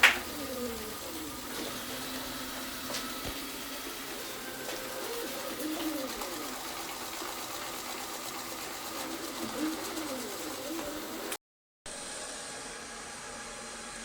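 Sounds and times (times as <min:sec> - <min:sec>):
robot vacuum whirring: 0:00.0 - 0:11.4.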